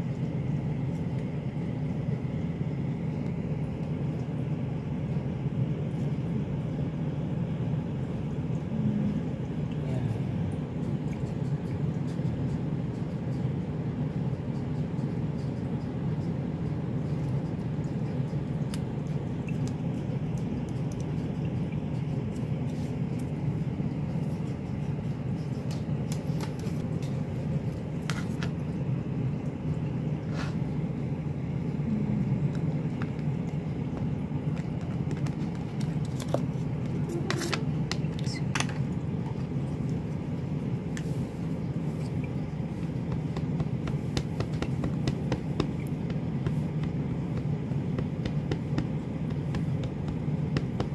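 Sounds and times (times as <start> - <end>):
low background hum: 0.0 - 50.9.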